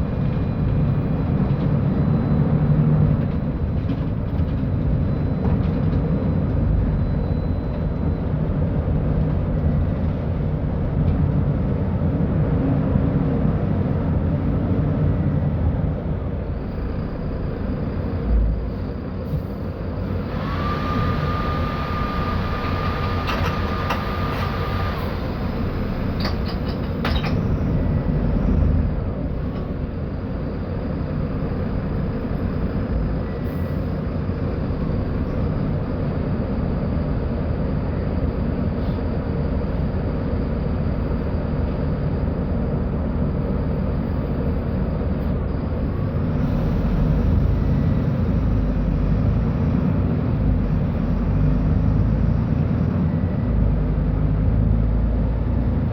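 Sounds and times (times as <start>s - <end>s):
bus engine droning: 0.0s - 55.9s.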